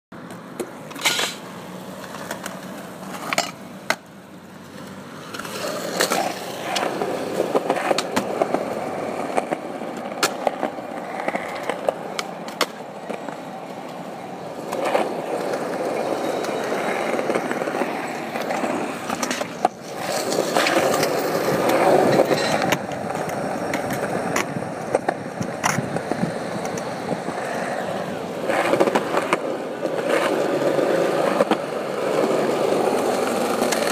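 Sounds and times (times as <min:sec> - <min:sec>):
skateboard clacking on ground: 0:00.2 - 0:33.9
skateboard wheels rolling on concrete: 0:00.2 - 0:33.9.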